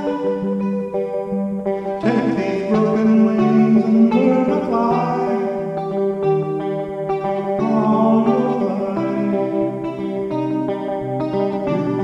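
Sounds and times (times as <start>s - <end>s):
electric guitar melody: 0.0s - 12.0s.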